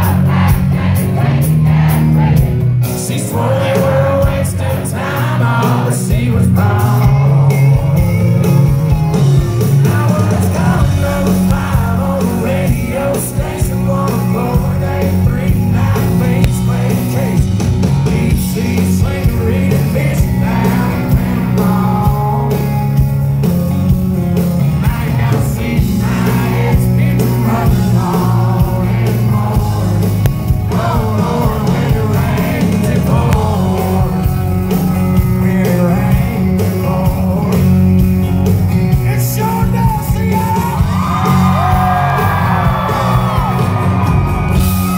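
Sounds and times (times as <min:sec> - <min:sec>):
acoustic guitar: 0:00.0 - 0:44.9
bass and drums: 0:00.0 - 0:44.9
live country band: 0:00.0 - 0:44.9
man singing: 0:02.9 - 0:23.2, 0:24.6 - 0:38.1, 0:38.9 - 0:43.5.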